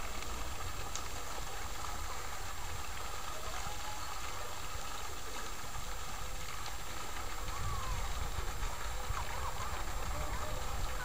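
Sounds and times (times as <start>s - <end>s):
fountain splashing onto water: 0.0s - 11.0s.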